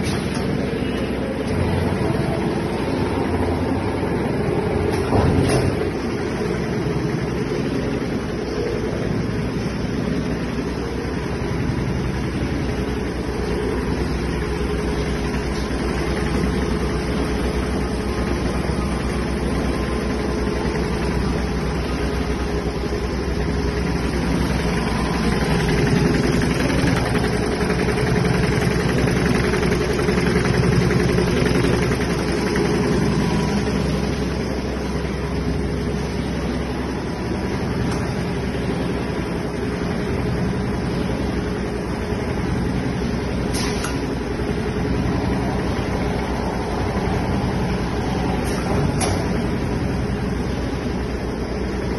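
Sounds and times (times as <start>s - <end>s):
machinery humming: 0.0s - 51.9s.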